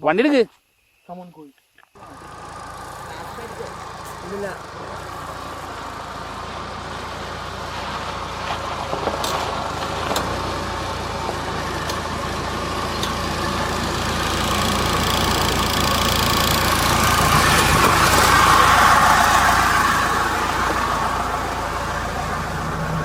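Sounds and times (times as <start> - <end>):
vehicle engine driving slowly: 1.9 - 23.0.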